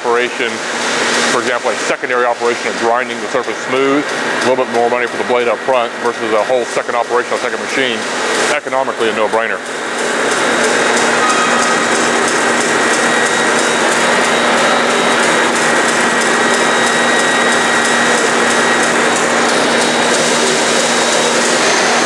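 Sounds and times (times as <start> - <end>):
bandsaw hum: 0.0 - 22.0.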